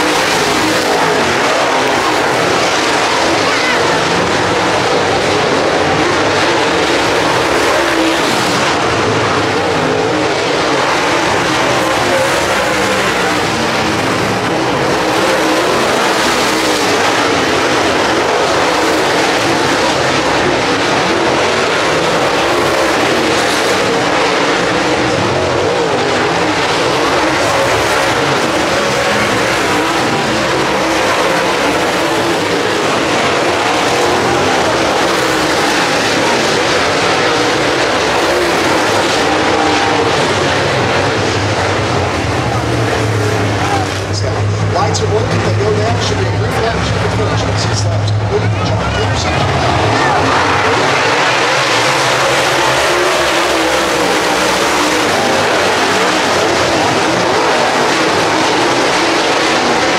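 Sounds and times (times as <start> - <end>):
race car engines roaring: 0.0 - 59.9.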